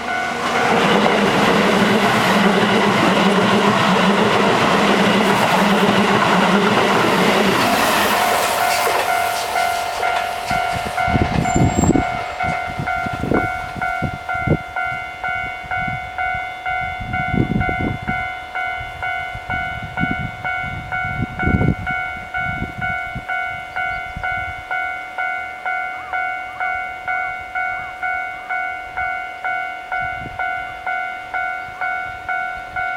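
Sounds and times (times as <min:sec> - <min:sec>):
electric train passing: 0:00.0 - 0:32.9
level-crossing warning bell: 0:00.0 - 0:32.9.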